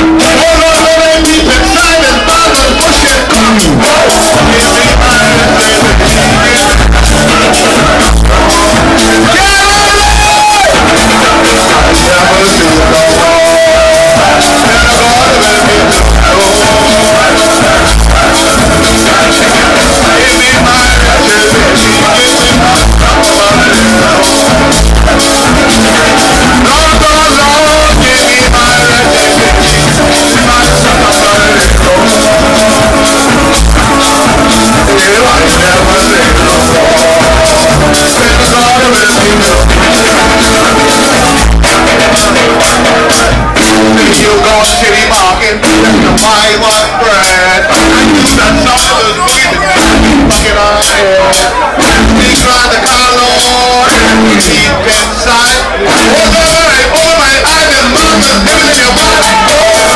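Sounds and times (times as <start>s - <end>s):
electric bass: 0.0s - 59.9s
electric guitar: 0.0s - 59.9s
hand drum beat: 2.6s - 55.1s.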